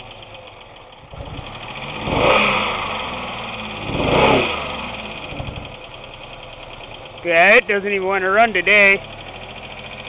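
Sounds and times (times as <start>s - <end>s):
car engine running rough and revving: 0.0s - 10.0s.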